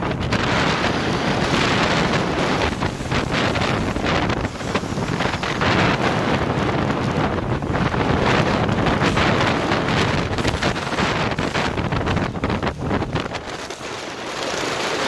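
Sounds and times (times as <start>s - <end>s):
sea breaking along hull: 0.0s - 15.0s
wind buffeting microphone: 0.0s - 15.0s.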